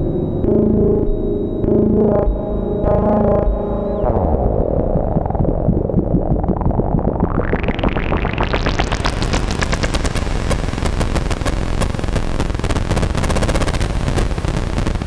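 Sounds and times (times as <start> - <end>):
synthesizer crackling noise: 0.0 - 15.0.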